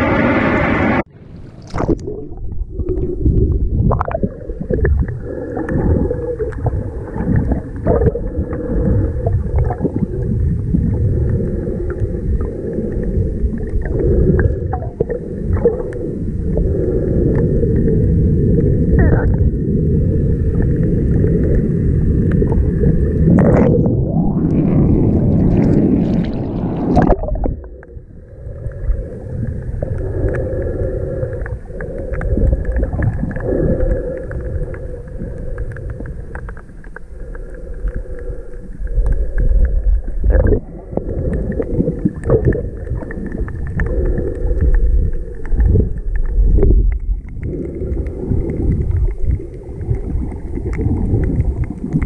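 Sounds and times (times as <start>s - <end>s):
underwater sloshing and gurgling: 0.0s - 52.0s.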